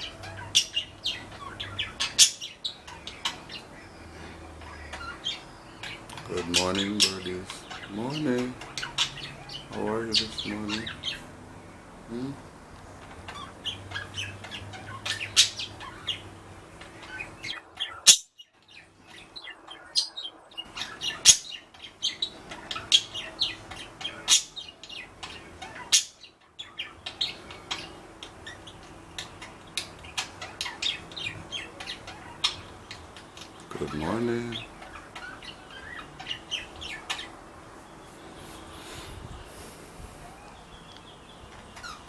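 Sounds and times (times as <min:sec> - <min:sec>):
budgerigars chirping: 0:00.0 - 0:42.0
sharp loud bird calls: 0:00.0 - 0:42.0.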